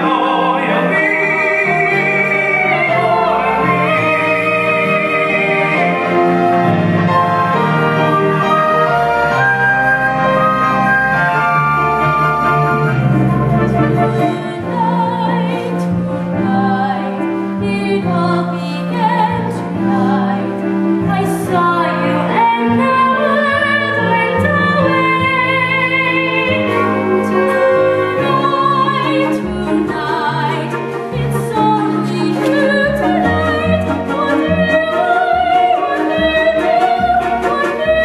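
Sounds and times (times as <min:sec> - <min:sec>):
instrumental accompaniment: 0:00.0 - 0:38.0.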